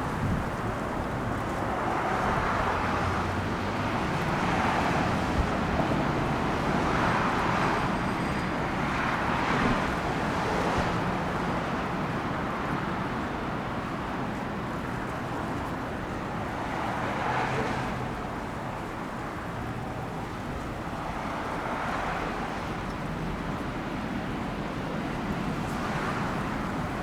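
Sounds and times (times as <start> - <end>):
passing vehicles: 0.0 - 27.0.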